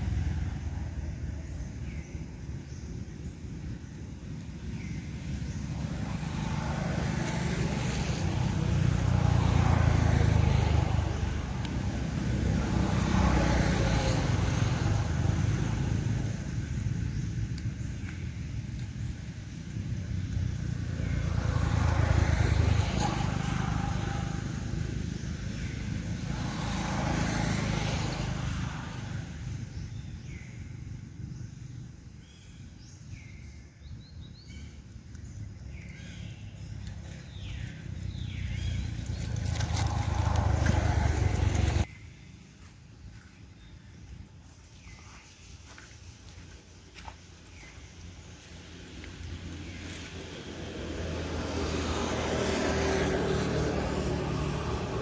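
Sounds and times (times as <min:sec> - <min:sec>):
road vehicles passing: 0:00.0 - 0:55.0.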